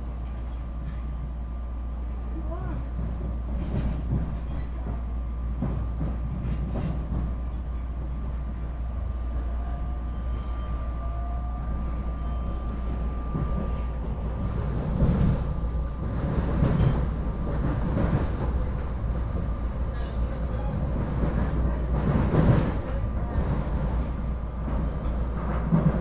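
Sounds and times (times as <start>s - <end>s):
train interior rumble and clatter: 0.0s - 26.0s.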